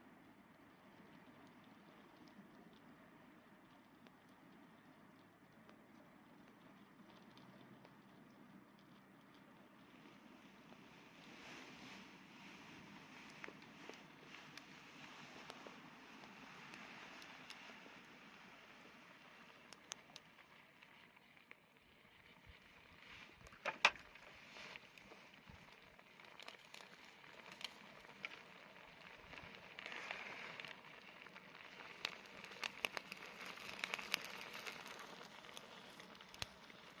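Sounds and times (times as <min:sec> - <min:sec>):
soft hiss: 0:00.0 - 0:21.4, 0:22.0 - 0:37.0
campfire crackling: 0:00.7 - 0:37.0.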